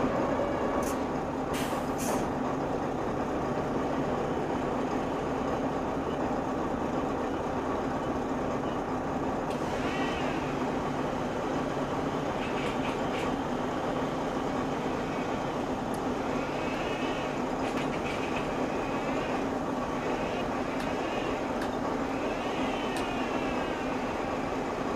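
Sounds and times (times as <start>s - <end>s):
machinery humming: 2.5s - 24.9s.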